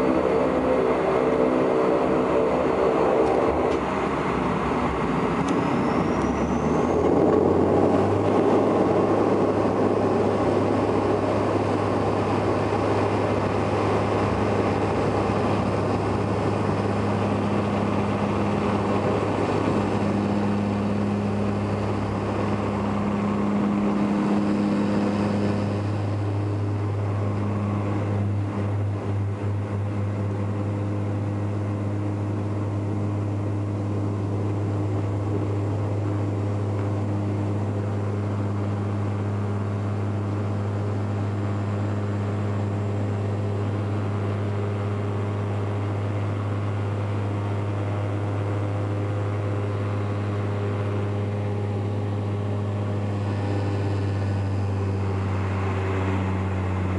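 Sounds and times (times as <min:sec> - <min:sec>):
propeller drone with whine: 0:00.0 - 0:56.9
takeoff roll rumble: 0:00.0 - 0:56.9.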